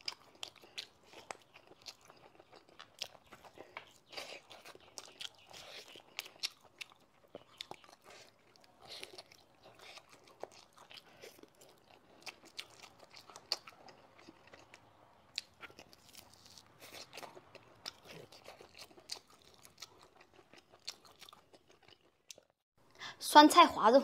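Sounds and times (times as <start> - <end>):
chewing and biting chicken: 0.0 - 22.5.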